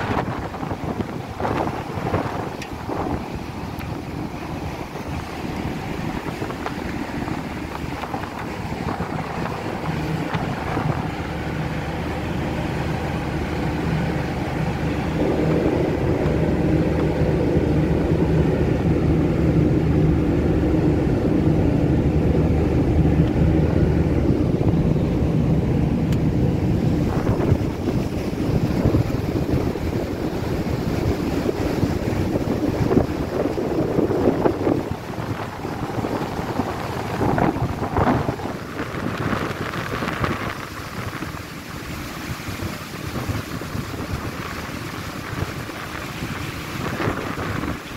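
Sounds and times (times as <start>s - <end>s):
ship diesel engines droning: 0.0s - 47.9s
wind buffeting microphone: 0.0s - 47.9s.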